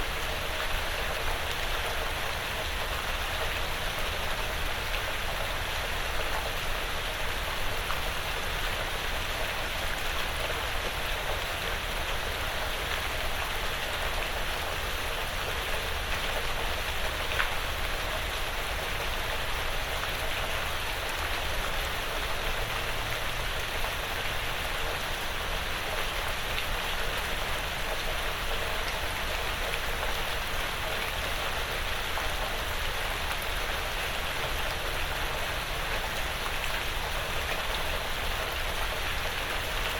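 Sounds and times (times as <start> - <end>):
light rain pattering on roof: 0.0 - 39.9.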